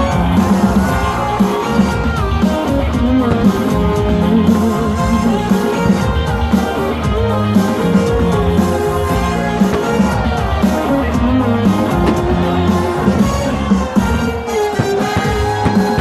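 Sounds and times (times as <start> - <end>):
guitar-led music: 0.0 - 16.0.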